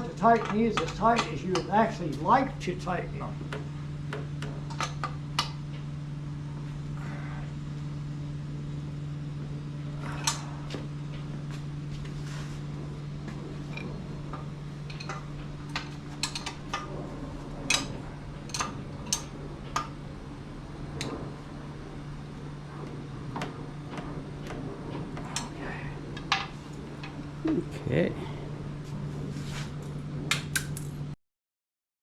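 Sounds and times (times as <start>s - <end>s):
steady low hum: 0.0s - 31.2s.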